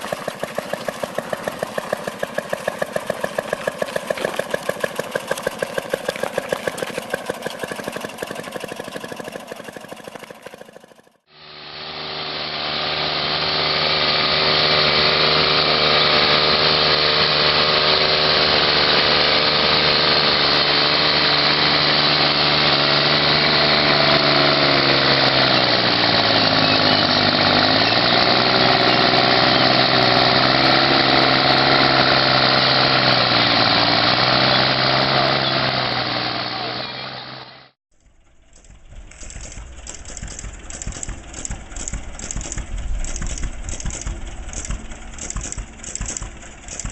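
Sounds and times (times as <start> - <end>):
rough engine: 0.0 - 46.9
small engine running: 0.0 - 46.9.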